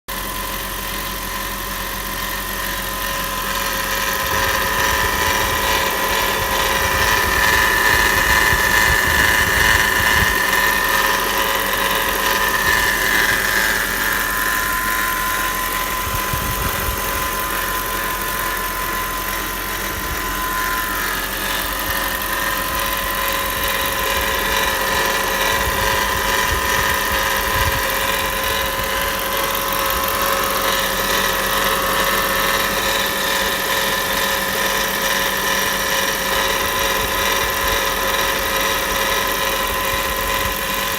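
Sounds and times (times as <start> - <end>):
car engine running: 0.1 - 40.9
high-pitched engine whine: 0.1 - 40.9.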